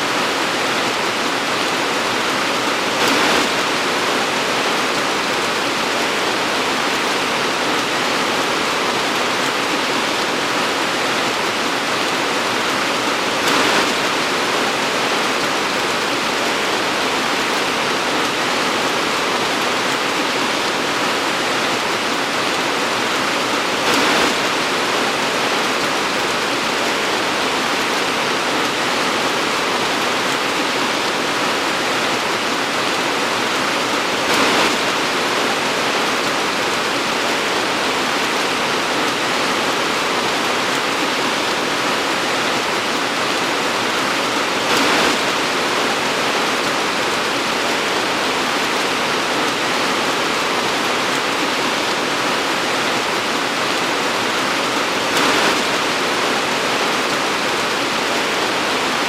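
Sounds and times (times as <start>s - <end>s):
torrential rain pouring: 0.0s - 59.0s.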